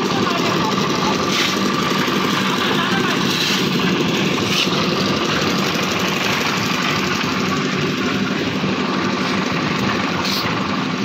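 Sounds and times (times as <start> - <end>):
concrete mixer engine running: 0.0 - 11.0.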